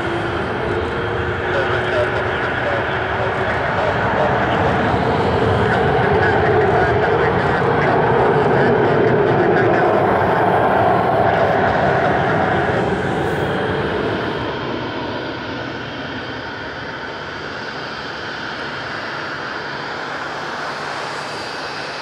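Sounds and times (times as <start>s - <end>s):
jet engines roaring at takeoff: 0.0s - 22.0s.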